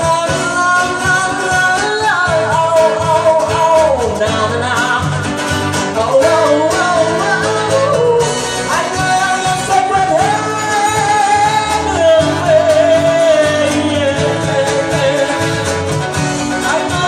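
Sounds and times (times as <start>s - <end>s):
acoustic guitar: 0.0s - 17.0s
man singing: 0.0s - 17.0s.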